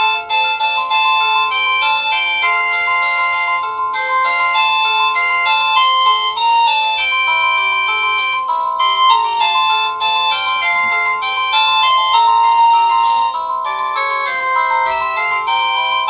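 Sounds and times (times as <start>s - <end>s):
electronic doorbell melody: 0.0s - 16.0s.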